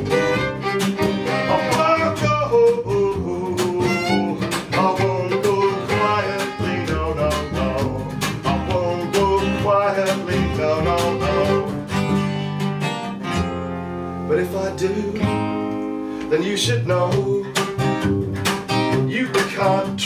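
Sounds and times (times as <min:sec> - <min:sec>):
acoustic folk band playing: 0:00.0 - 0:20.0
strummed acoustic guitar: 0:00.0 - 0:20.0.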